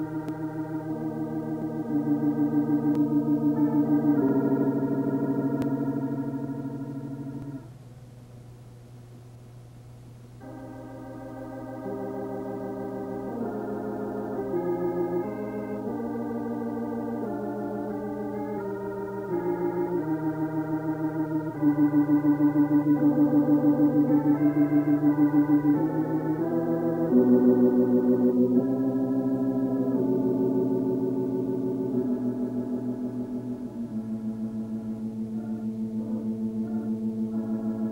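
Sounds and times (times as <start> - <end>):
slow organ music: 0.0 - 8.1, 10.3 - 37.9.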